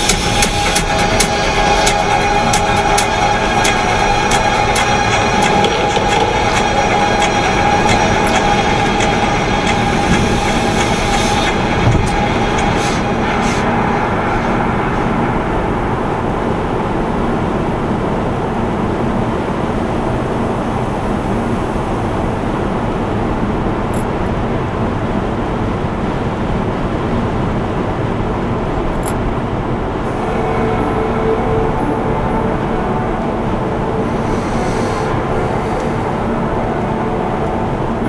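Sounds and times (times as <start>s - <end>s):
car engine hum: 0.0s - 38.0s
road and tyre noise: 0.0s - 38.0s.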